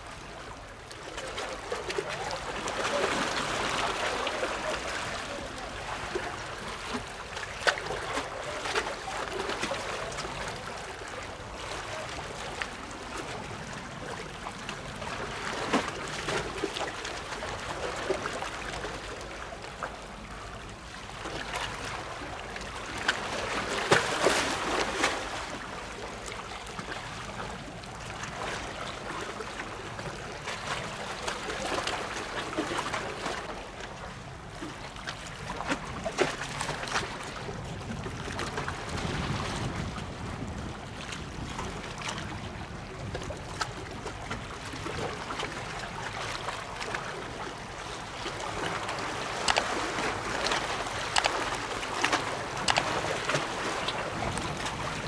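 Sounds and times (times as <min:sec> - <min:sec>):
water lapping at shoreline: 0:00.0 - 0:55.0.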